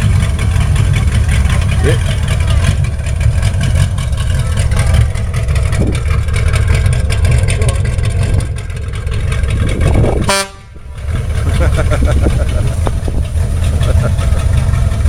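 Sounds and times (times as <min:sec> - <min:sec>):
engine deep rumble: 0:00.0 - 0:15.0.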